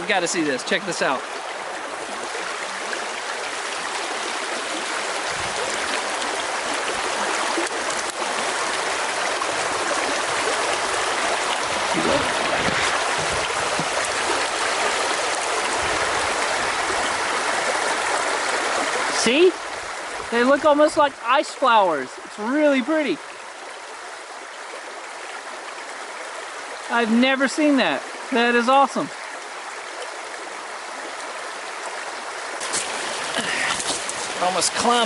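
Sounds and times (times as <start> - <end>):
creek water flowing: 0.0 - 35.0.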